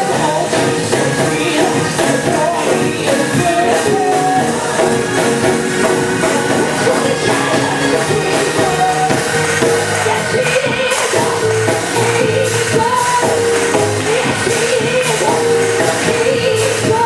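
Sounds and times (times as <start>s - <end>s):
live gospel music with fast beat: 0.0s - 17.0s
voices singing: 0.0s - 17.0s.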